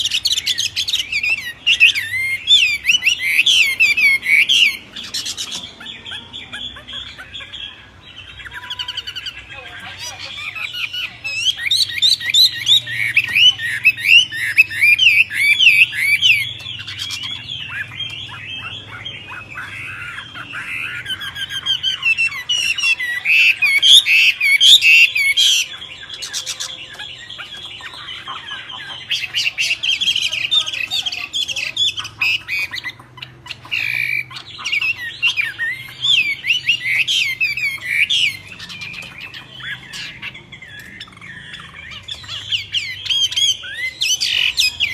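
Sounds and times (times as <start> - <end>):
birds chattering and squawking: 0.0 - 44.9.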